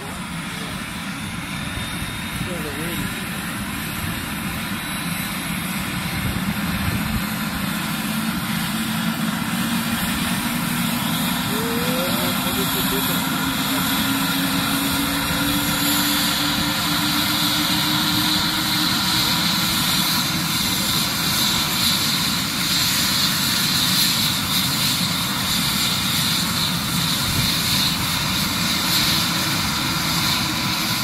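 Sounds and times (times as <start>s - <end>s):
helicopter turbine engines: 0.0s - 31.0s.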